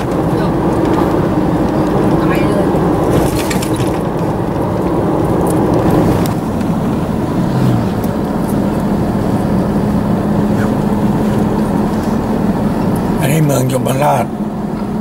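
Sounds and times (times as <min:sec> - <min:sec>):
car road noise inside cabin: 0:00.0 - 0:15.0.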